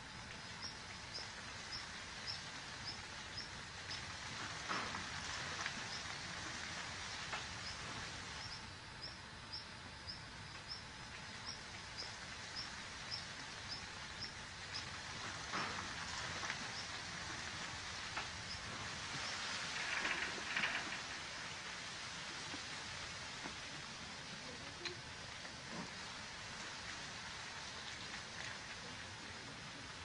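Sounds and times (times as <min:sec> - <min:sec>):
steady outdoor hiss: 0:00.0 - 0:30.0.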